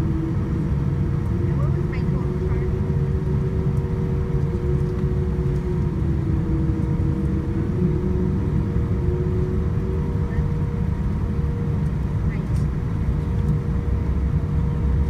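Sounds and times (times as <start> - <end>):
aircraft cabin rumble: 0.0 - 15.0
engine and cabin air hum: 0.0 - 15.0.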